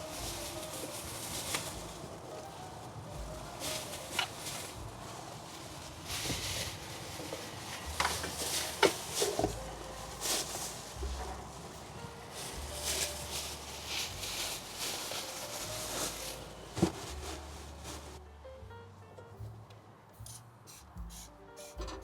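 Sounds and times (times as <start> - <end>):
rustling: 0.0 - 18.2.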